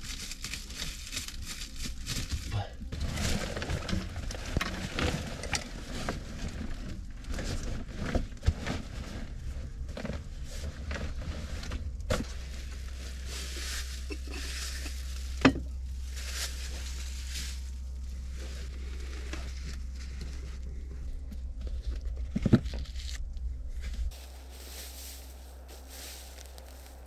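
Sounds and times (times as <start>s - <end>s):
nylon bag rustling: 0.0s - 20.4s, 24.1s - 27.0s
clay pot set on wooden shelf: 0.0s - 27.0s.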